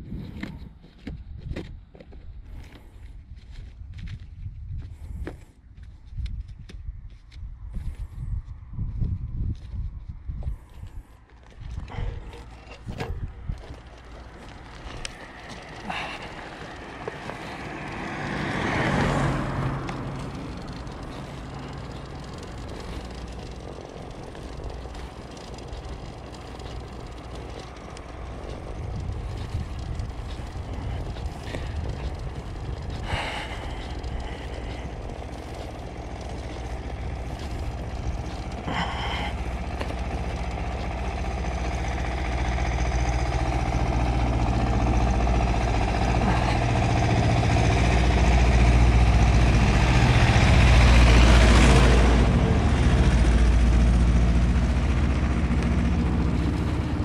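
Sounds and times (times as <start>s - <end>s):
engine humming: 10.5s - 57.0s.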